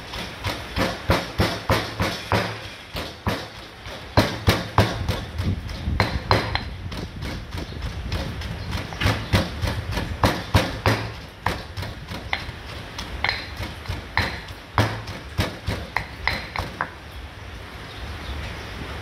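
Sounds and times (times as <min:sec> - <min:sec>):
pestle pounding in stone mortar: 0:00.0 - 0:17.0.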